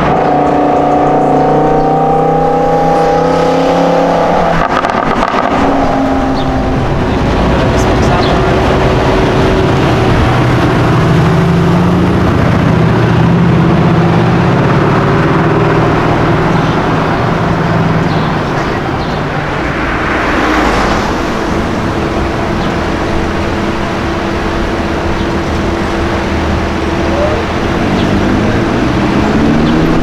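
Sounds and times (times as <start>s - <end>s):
car engine running: 0.0s - 30.0s
road noise: 0.0s - 30.0s.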